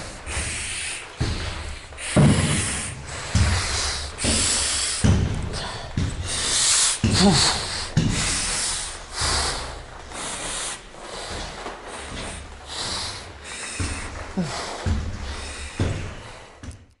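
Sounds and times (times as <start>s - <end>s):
man breathing heavily through mask: 0.0s - 16.8s.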